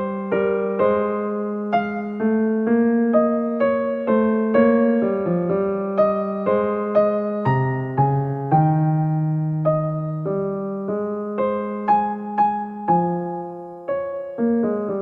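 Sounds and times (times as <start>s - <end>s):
electric piano slow melody: 0.0s - 15.0s.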